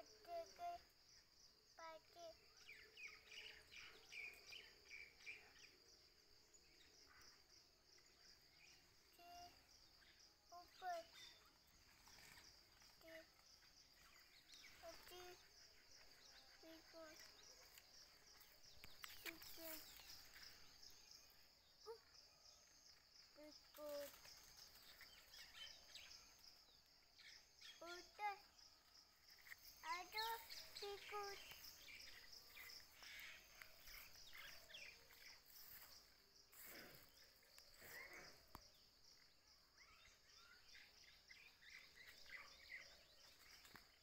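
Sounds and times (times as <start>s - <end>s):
insects chirring: 0.0s - 44.0s.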